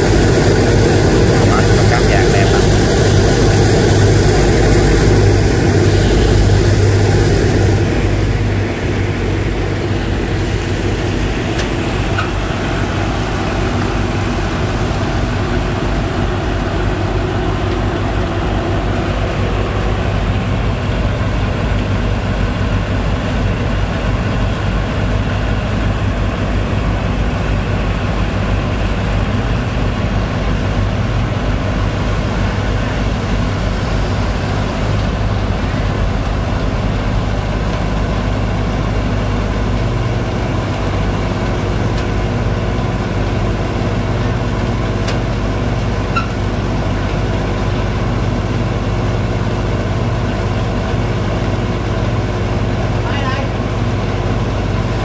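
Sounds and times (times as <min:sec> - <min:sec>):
pump engine droning: 0:00.0 - 0:55.0.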